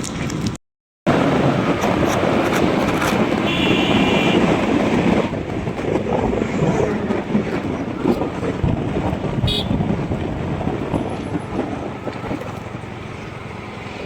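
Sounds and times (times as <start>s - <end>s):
vehicle engine and road noise: 0.0s - 14.0s
wind buffeting microphone: 0.0s - 14.0s.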